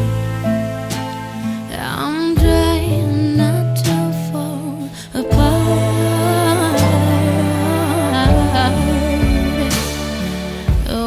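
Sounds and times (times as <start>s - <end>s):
bass line: 0.0s - 1.4s, 2.4s - 11.0s
slow song with sustained notes: 0.0s - 11.0s.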